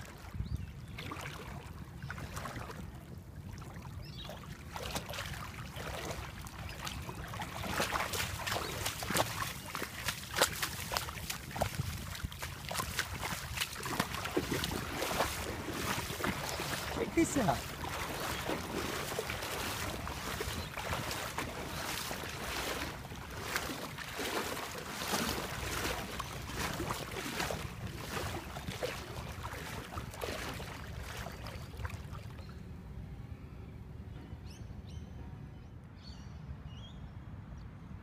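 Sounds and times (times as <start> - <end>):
small waves at shoreline: 0.0 - 32.7
wind: 0.0 - 38.0.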